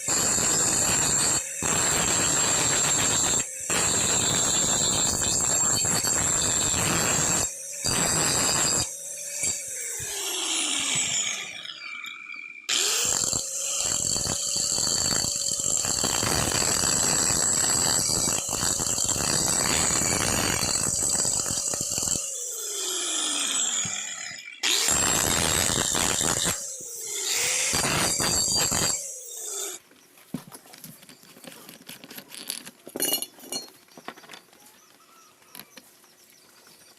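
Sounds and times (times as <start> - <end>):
harsh grinding on metal: 0.0 - 29.8
power tool motor whining: 0.0 - 29.8.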